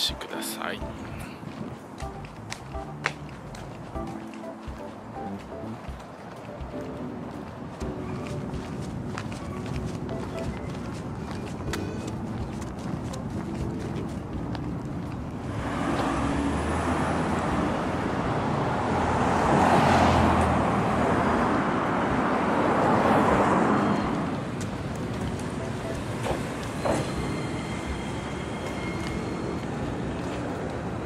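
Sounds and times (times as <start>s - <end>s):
vehicle passing: 0.7s - 31.0s.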